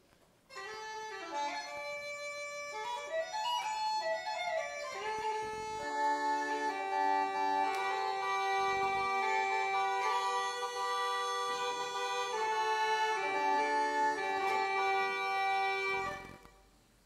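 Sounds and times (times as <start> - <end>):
bagpipe drones: 0.5 - 16.5
uilleann pipes playing a tune: 0.5 - 16.7.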